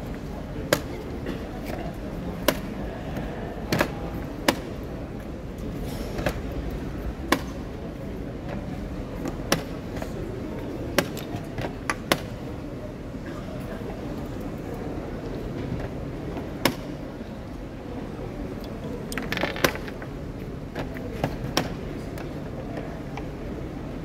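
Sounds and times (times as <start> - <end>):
background hall noise: 0.0 - 24.0.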